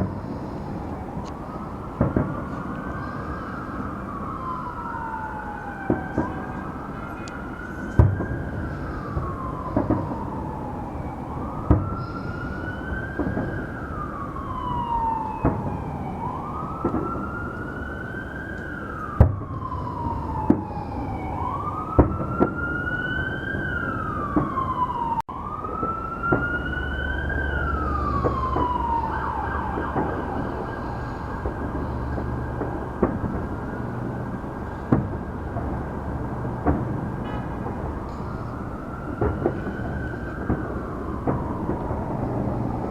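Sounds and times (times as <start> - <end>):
fireworks bangs: 0.0 - 17.8, 19.0 - 42.9
emergency vehicle siren wailing: 0.0 - 42.9.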